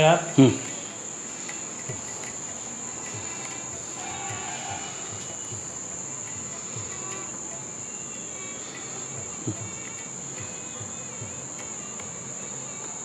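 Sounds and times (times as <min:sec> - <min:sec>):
high-pitched insect-like trill: 0:00.0 - 0:13.0.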